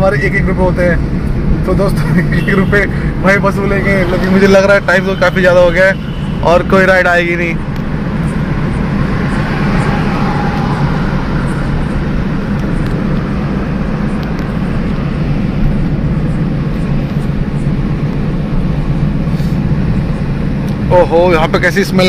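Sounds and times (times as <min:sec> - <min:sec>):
car engine and road drone: 0:00.0 - 0:22.0.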